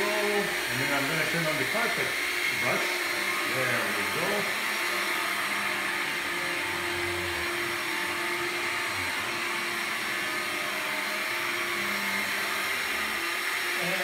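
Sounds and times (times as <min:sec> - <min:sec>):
vacuum cleaner running on carpet: 0:00.0 - 0:14.0.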